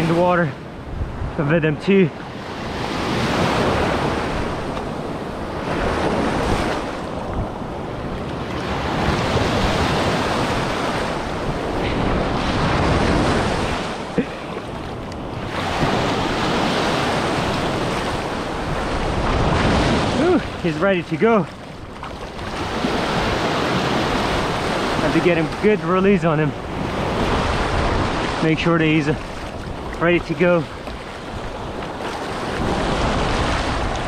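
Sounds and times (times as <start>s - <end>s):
ocean surf breaking: 0.0s - 34.0s
wind buffeting microphone: 0.0s - 34.0s.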